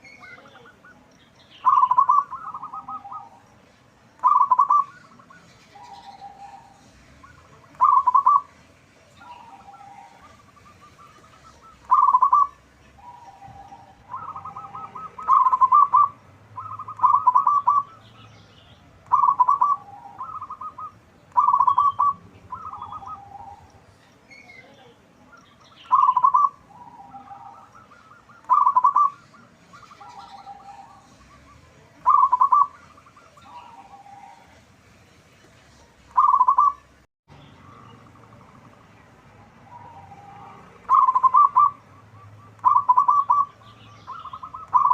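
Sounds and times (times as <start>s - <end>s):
doves cooing: 0.0s - 3.6s, 4.2s - 18.3s, 18.9s - 24.5s, 25.3s - 34.7s, 36.1s - 36.9s, 37.6s - 44.9s.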